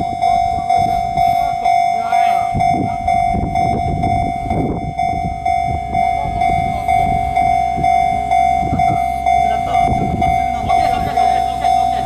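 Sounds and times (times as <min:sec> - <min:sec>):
level-crossing warning bell: 0:00.0 - 0:12.0.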